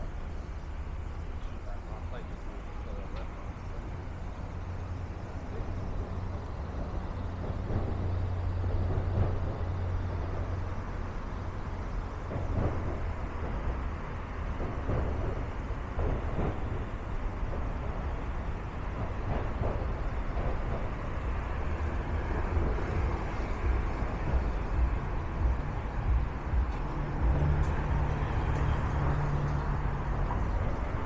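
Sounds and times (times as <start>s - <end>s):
road traffic rumble: 0.0s - 31.0s
street noise: 0.0s - 31.0s.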